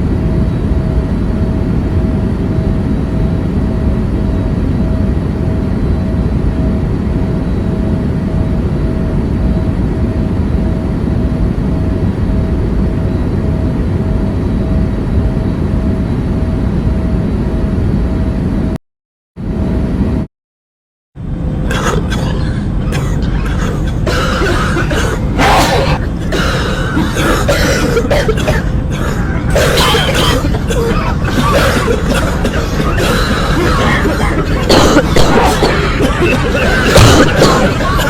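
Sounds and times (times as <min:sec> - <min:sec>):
airliner engines and airflow rumble: 0:00.0 - 0:18.8, 0:19.4 - 0:20.3, 0:21.2 - 0:38.0
faint constant hum: 0:00.0 - 0:18.8, 0:21.2 - 0:38.0.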